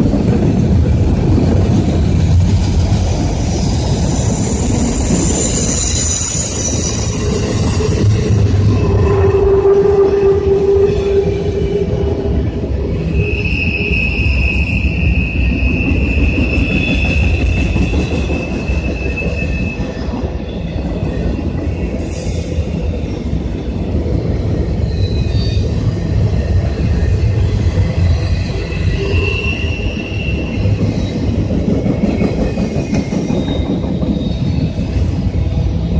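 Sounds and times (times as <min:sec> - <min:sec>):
freight train rumble: 0:00.0 - 0:35.9
steel wheels squealing on rail: 0:01.4 - 0:35.9.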